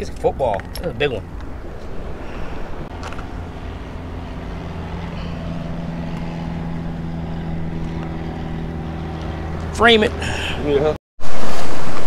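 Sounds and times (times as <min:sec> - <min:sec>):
boat engine droning: 0:00.0 - 0:12.0
wind: 0:00.0 - 0:12.0.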